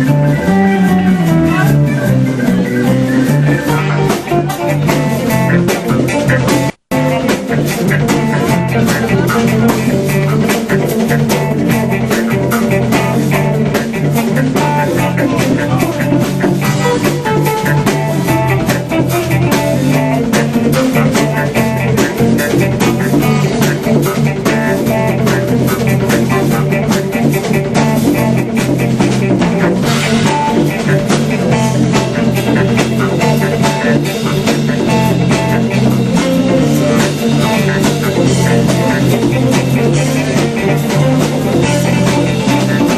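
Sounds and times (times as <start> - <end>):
electric guitar: 0.0 - 42.9
live band jamming: 0.0 - 42.9.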